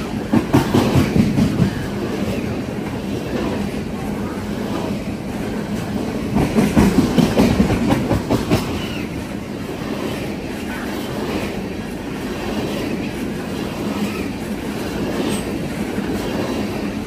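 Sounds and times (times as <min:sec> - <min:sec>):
rapid train wheel clacks: 0:00.0 - 0:17.0
train rumbling past: 0:00.0 - 0:17.0.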